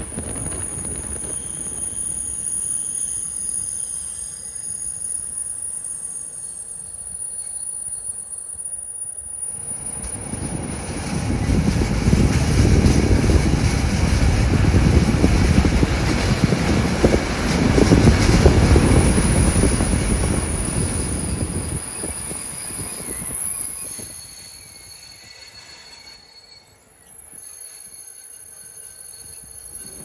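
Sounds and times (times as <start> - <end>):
train brakes squealing: 0.0 - 30.0
train rumbling on rails: 0.0 - 30.0.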